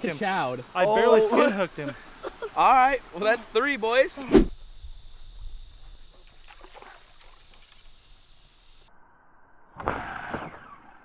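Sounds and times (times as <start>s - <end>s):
night insects droning: 0.0s - 9.8s.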